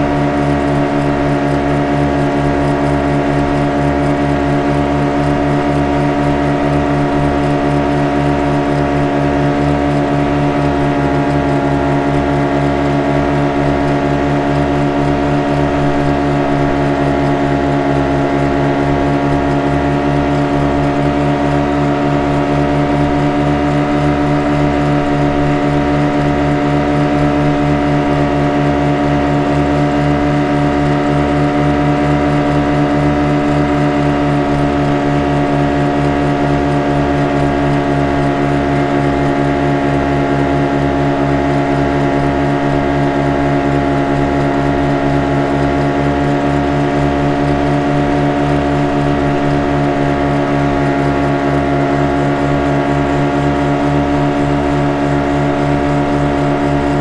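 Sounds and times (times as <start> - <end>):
motorboat engine running: 0.0 - 57.0.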